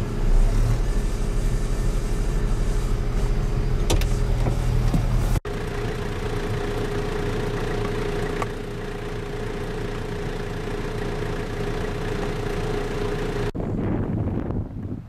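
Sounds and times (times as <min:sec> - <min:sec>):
vehicle engine running: 0:00.0 - 0:14.5.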